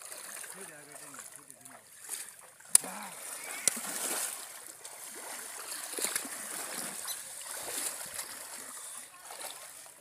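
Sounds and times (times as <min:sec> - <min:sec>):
water splashing around wading legs: 0:00.0 - 0:10.0.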